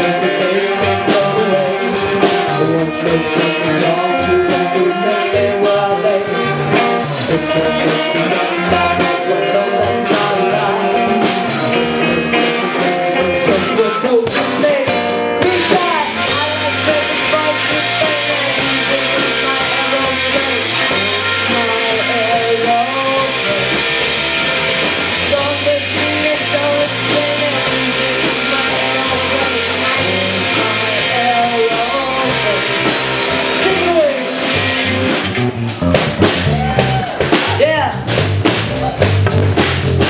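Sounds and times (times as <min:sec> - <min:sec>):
person singing: 0:00.0 - 0:35.0
drum strokes: 0:00.0 - 0:40.0
rock band playing live: 0:00.0 - 0:40.0.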